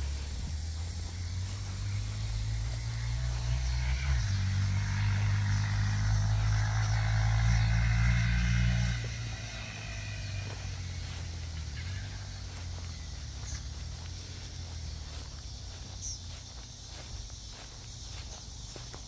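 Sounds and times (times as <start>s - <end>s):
small motorcycle engine passing: 0.0s - 19.0s.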